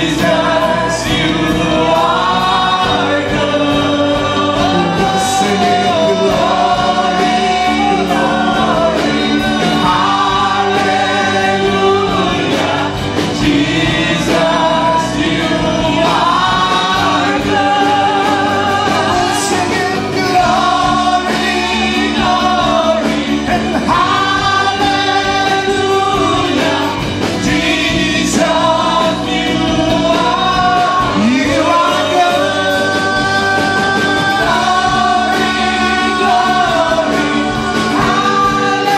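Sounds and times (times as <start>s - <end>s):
full band playing: 0.0s - 38.9s
people singing worship song: 0.0s - 38.9s.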